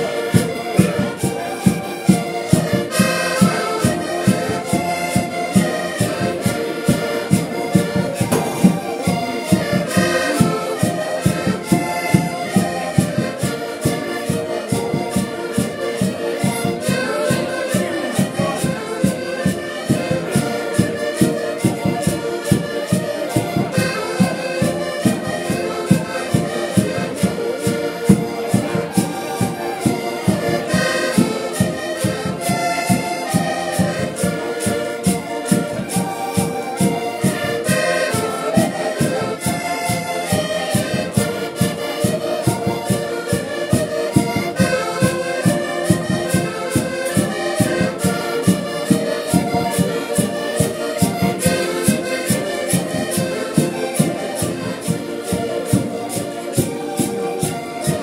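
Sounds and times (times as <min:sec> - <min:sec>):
button accordions playing folk music: 0:00.0 - 0:58.0.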